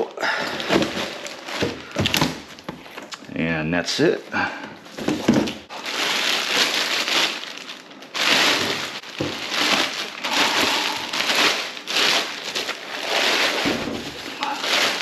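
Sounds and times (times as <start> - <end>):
plastic bag and bubble wrap crinkling: 0.0 - 3.5, 4.8 - 15.0.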